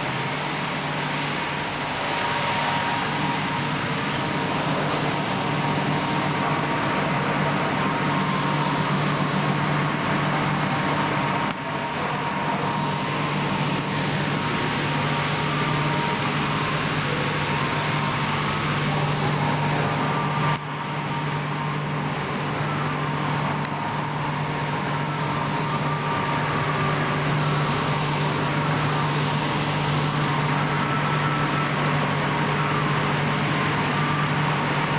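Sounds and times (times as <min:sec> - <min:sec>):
machine hum: 0:00.0 - 0:34.9.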